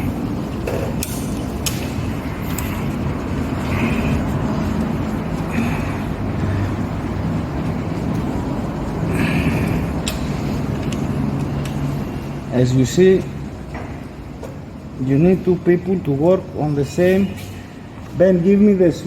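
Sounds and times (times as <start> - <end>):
low background rumble: 0.0 - 16.9.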